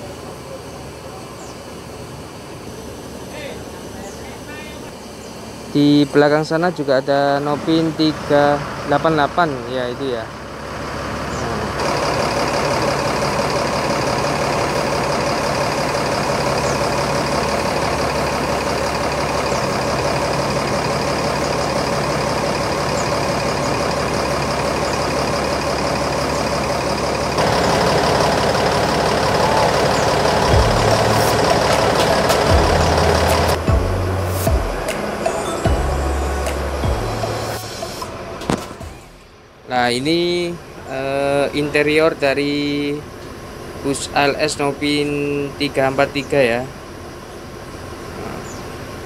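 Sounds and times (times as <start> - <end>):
bus diesel engine idling: 0.0 - 49.0.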